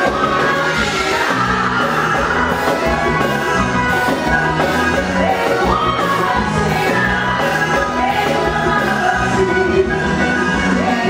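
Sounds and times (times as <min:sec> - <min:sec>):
live band music: 0:00.0 - 0:11.0
person singing lead vocal: 0:00.0 - 0:11.0.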